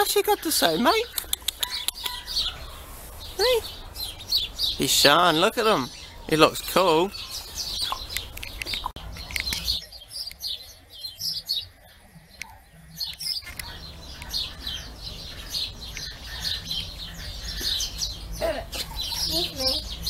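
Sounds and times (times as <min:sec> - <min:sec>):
lovebirds chirping: 0:00.0 - 0:20.0.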